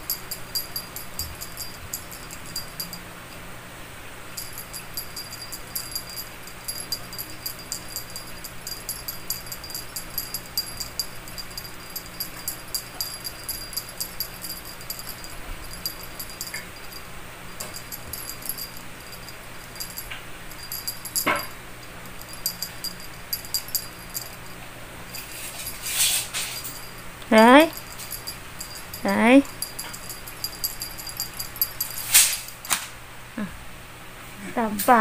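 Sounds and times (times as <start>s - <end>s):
bell on cat toy jingling: 0.0s - 3.5s, 4.3s - 32.8s.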